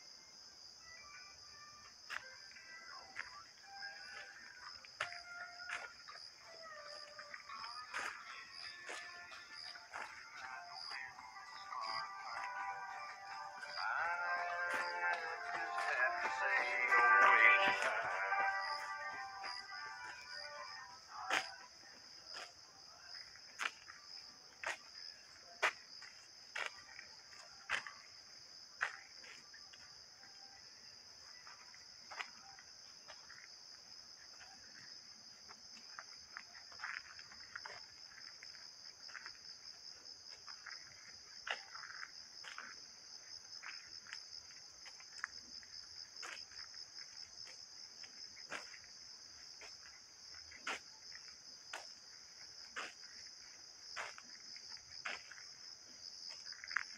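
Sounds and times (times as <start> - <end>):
insects trilling: 0.0 - 56.9
footsteps on dirt path: 1.8 - 56.9.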